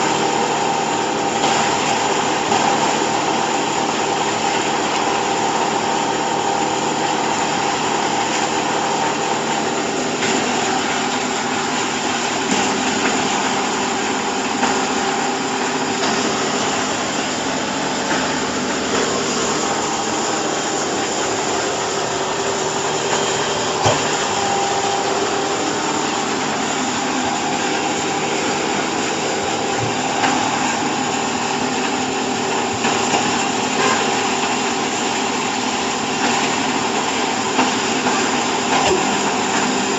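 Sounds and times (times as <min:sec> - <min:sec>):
baling machine motor hum: 0:00.1 - 0:39.9.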